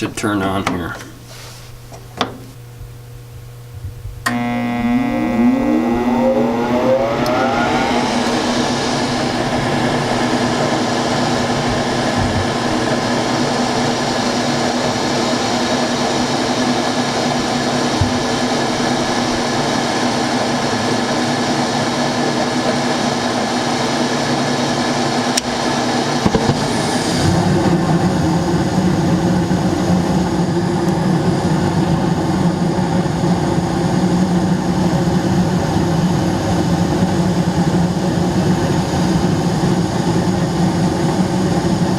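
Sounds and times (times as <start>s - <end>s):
gas furnace motor hum: 0.0s - 41.9s.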